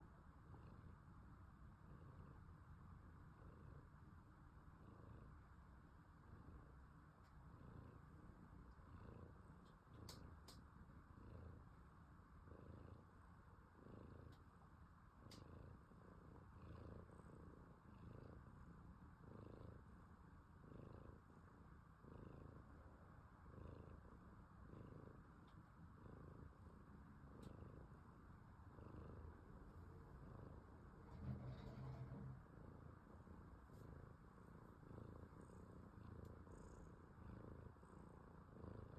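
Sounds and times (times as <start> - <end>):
cat snoring faintly: 0.0 - 38.9.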